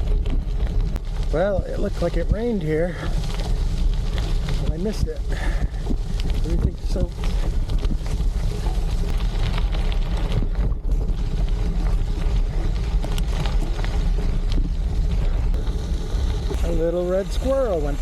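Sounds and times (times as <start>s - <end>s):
tyres crunching over gravel: 0.0s - 18.0s
wind buffeting microphone: 0.0s - 18.0s.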